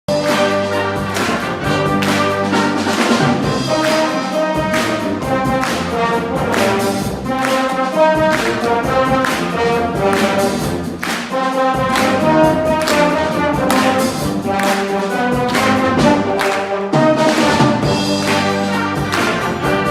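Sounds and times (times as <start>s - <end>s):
wind band playing: 0.1s - 19.9s.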